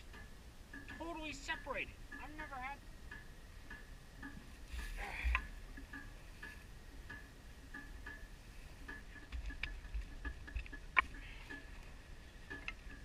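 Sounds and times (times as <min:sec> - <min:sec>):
faint high ticking: 0:00.0 - 0:13.0.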